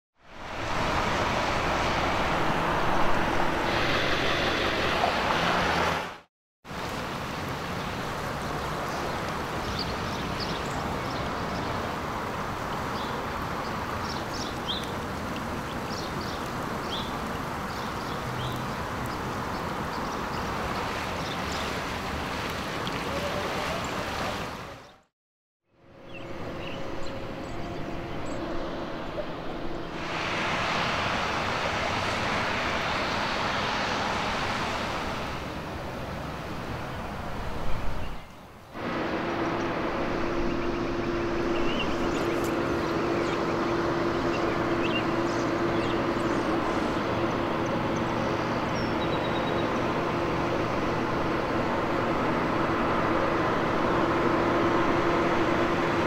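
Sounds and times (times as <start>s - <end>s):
wind: 0.1s - 56.0s
cars passing on wet road: 0.2s - 24.9s, 26.1s - 56.0s
flowing floodwater: 0.2s - 25.1s, 26.0s - 56.0s.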